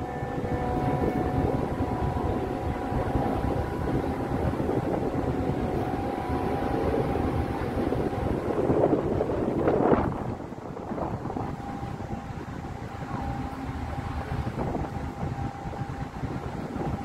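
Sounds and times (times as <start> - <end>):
low engine rumble: 0.0 - 17.0
wind on microphone: 0.0 - 17.0.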